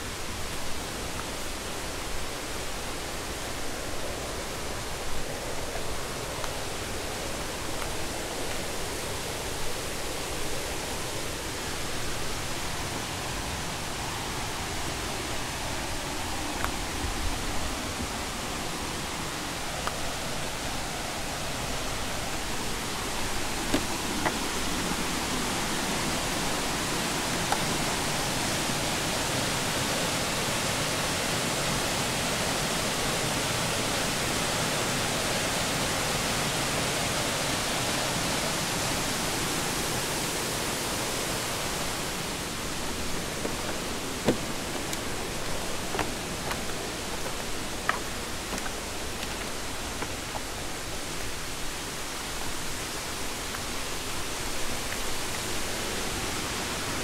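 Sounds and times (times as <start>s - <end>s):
waterfall and stream rushing: 0.0s - 57.0s.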